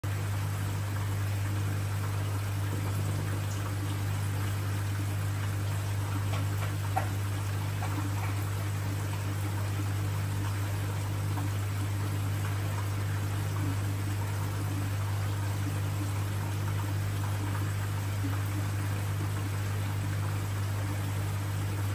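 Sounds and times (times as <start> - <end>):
low pump hum: 0.0 - 21.9
water trickling: 0.1 - 21.9
faint water drips: 2.2 - 21.9.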